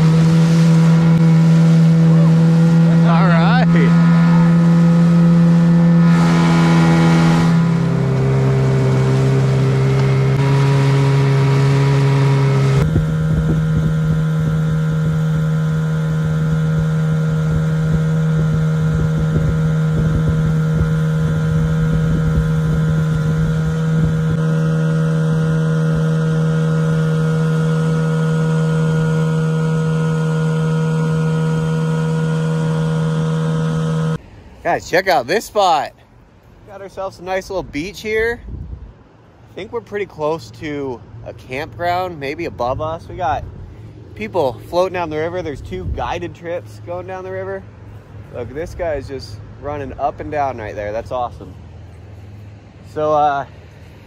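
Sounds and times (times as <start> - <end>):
outboard motor running: 0.0 - 34.6, 38.5 - 54.0.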